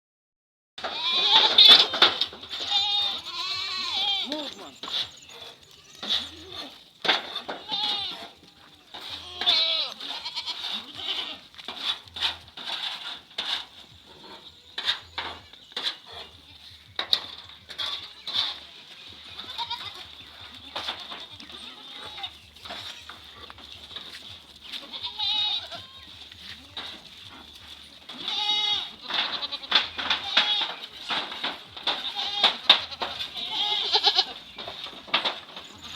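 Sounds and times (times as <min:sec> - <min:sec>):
goats bleating: 0:00.8 - 0:35.9.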